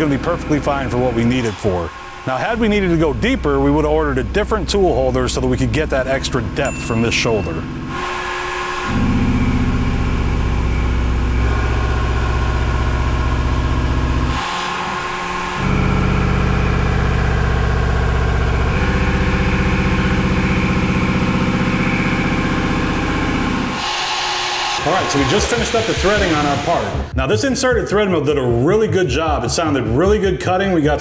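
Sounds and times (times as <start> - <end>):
thread mill cutting steel hum: 0.0 - 27.1.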